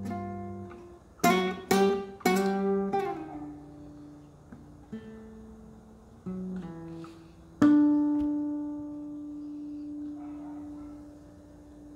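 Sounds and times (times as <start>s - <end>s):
strummed guitar chord ringing: 0.0s - 10.2s
acoustic guitar notes and chords: 0.0s - 11.9s.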